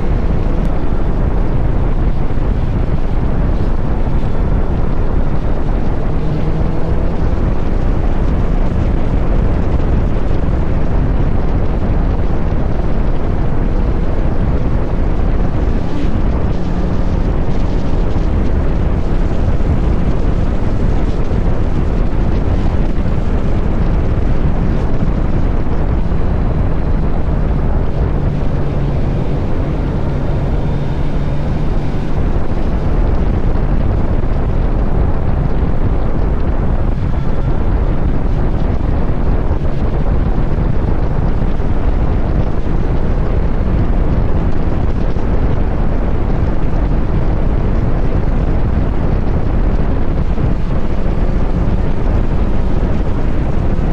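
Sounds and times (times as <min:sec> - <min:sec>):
motorcycle engine cruising: 0:00.0 - 0:53.9
wind buffeting microphone: 0:00.0 - 0:53.9.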